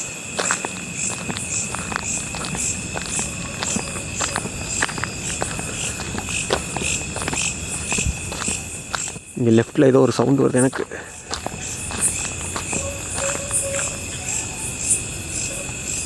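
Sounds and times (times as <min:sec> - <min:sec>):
insects trilling: 0:00.0 - 0:16.0
pulsing cricket chirp: 0:00.0 - 0:16.0.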